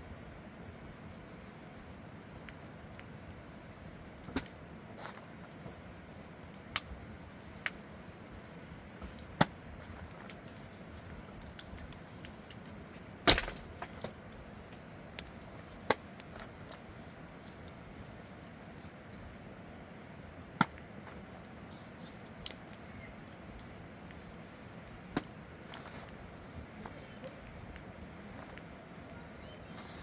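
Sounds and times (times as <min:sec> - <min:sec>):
faint steady background noise: 0:00.0 - 0:30.0.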